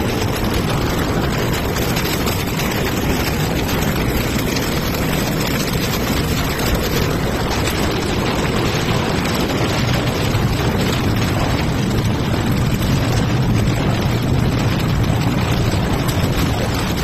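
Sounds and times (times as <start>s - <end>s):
low hum: 0.0s - 17.0s
plastic crushing machinery din: 0.0s - 17.0s.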